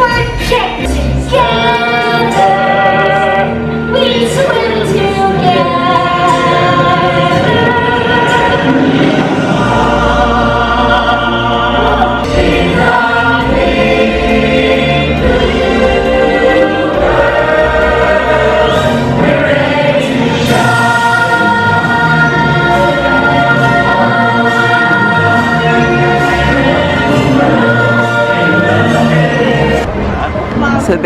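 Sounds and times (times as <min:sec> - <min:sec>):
ensemble singing in chorus: 0:00.0 - 0:30.4
orchestral backing: 0:00.0 - 0:31.0.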